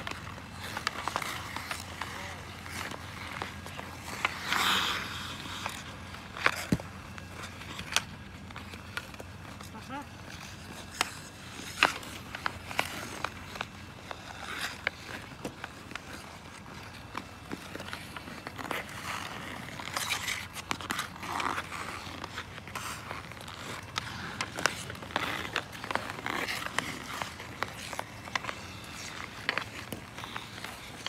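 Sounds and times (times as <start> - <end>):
hockey sticks clacking on puck: 0.0 - 31.0
skate blades scraping ice: 0.0 - 31.0.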